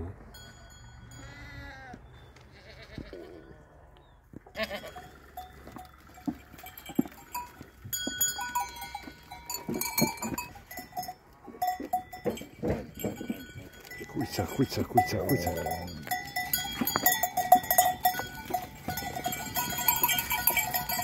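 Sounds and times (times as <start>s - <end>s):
goat bells clinking: 0.2s - 1.7s, 4.5s - 21.0s.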